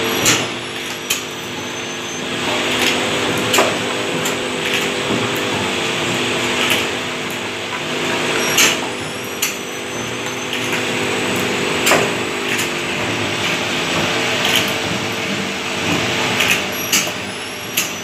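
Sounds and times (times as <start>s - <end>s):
filling nozzles clacking: 0.0s - 18.0s
machine motor hum: 0.0s - 18.0s.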